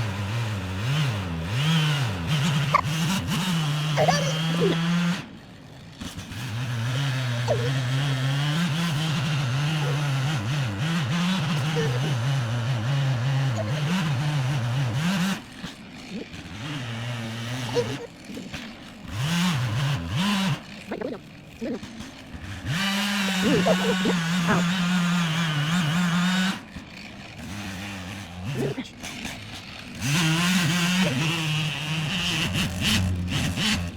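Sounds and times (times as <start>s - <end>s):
small gas engine running hard: 0.0s - 33.9s.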